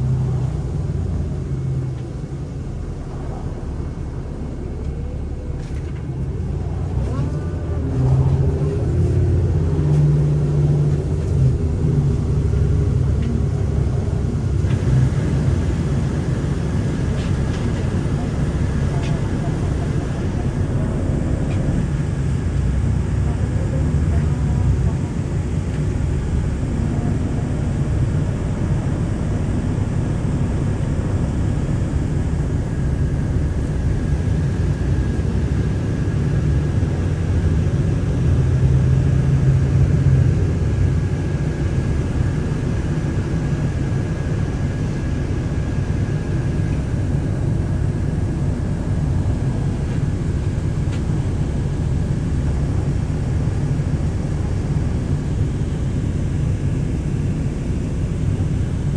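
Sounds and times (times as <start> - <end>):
bus engine and road noise: 0.0 - 58.9.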